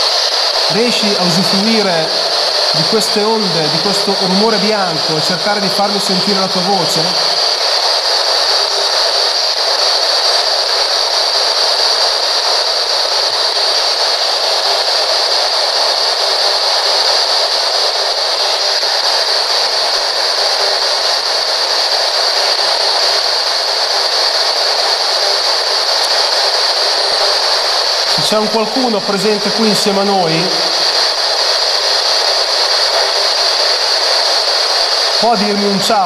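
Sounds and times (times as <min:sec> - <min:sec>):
loud white noise hiss: 0:00.0 - 0:36.0.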